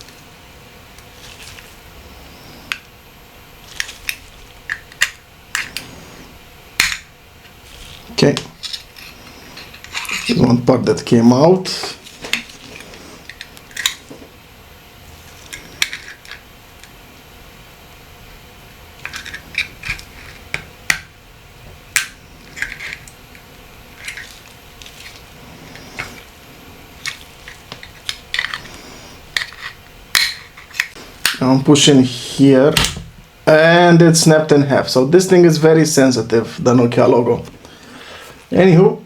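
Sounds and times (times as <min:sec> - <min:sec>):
faint steady background noise: 0:00.0 - 0:39.0.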